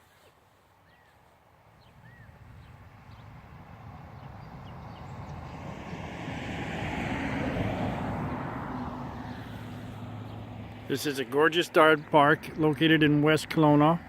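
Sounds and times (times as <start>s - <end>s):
vehicle passing by: 2.0s - 14.0s.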